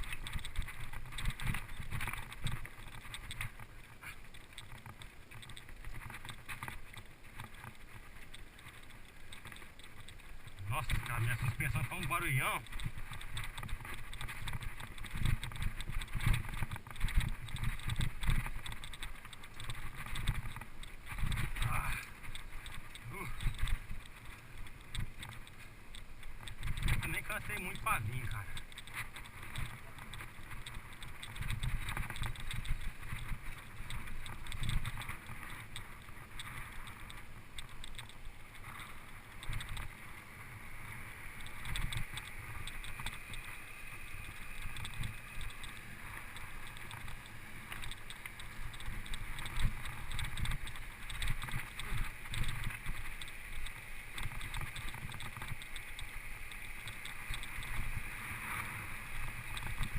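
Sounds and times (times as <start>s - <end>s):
mountain bike on dirt trail: 0.0s - 59.9s.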